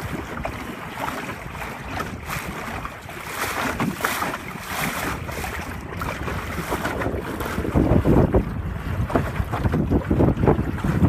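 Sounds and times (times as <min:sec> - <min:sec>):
water splashing along boat hull: 0:00.0 - 0:11.0
wind buffeting microphone: 0:00.0 - 0:11.0.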